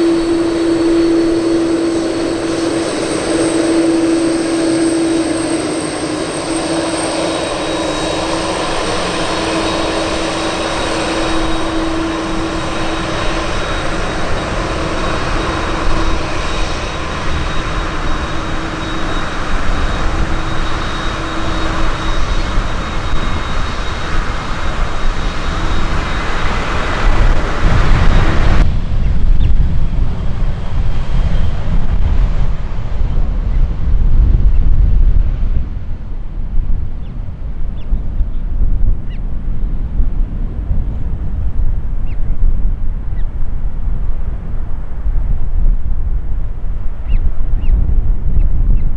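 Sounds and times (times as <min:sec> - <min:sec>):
jet engines running: 0:00.0 - 0:48.9
wind rumbling on microphone: 0:00.0 - 0:48.9.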